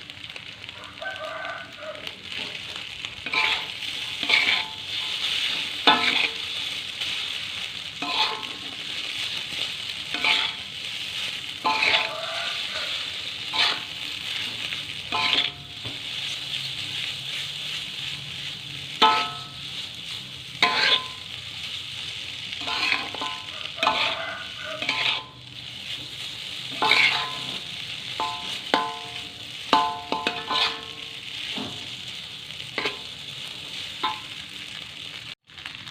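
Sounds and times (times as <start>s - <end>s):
food sizzling in hot oil: 0.0s - 35.9s.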